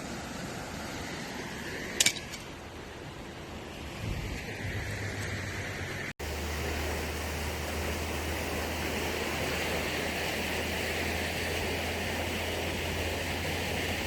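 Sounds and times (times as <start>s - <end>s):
steady rushing outdoor noise: 0.0s - 14.0s.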